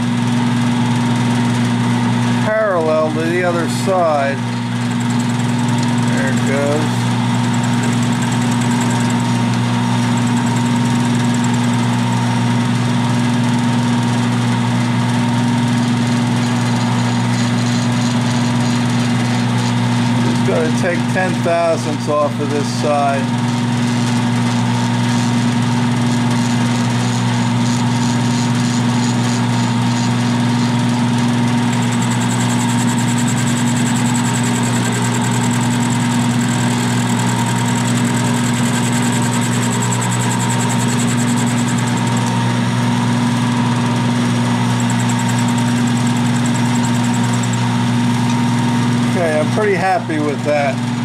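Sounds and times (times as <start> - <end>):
high whine of metal cutting: 0.0 - 51.0
milling machine motor hum: 0.0 - 51.0.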